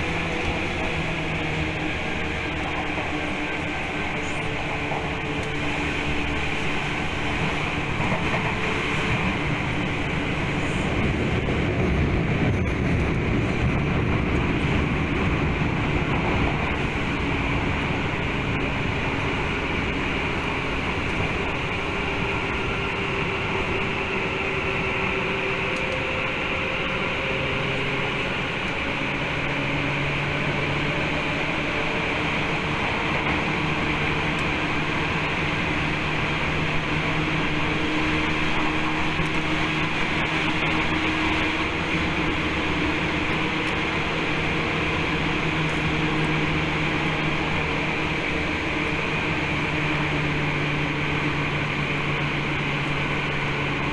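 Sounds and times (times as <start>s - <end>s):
train motor and gear tones: 0.0s - 53.9s
train wheels rumbling on rail: 0.0s - 53.9s.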